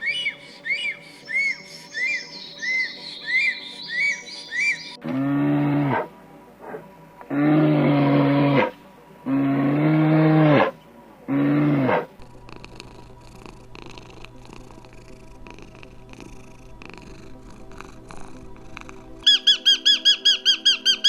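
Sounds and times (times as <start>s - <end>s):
animal calling: 0.0s - 21.0s
low hum: 0.0s - 21.0s.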